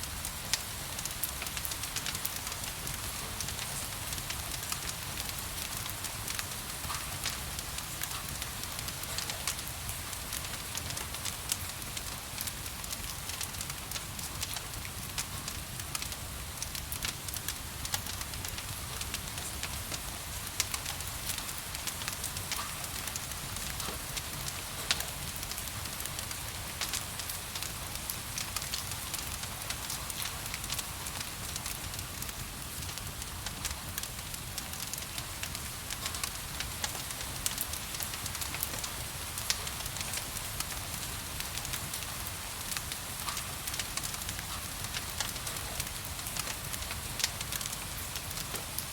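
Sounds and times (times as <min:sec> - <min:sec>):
fire crackling and popping: 0:00.0 - 0:48.9
gentle rain hiss: 0:00.0 - 0:48.9.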